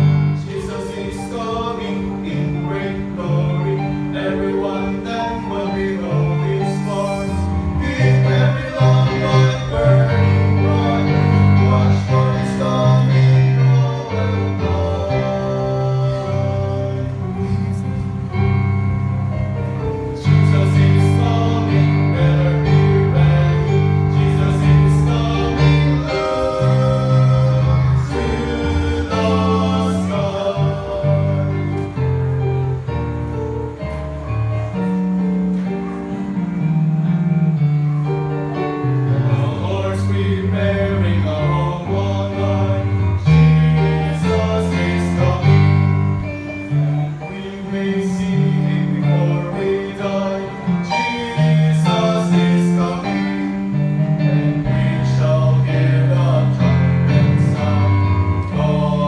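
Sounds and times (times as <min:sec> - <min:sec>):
men singing gospel song: 0:00.0 - 0:18.0, 0:20.1 - 0:32.0, 0:39.3 - 0:46.4, 0:47.0 - 0:59.0
instrumental accompaniment: 0:00.0 - 0:59.0.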